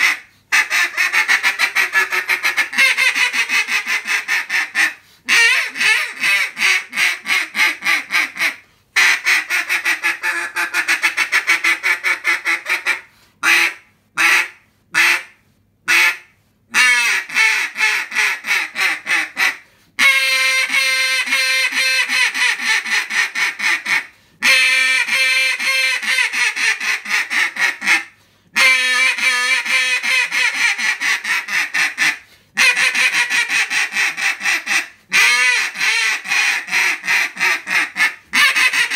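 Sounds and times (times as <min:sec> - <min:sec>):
duck call quacks: 0:00.0 - 0:38.9.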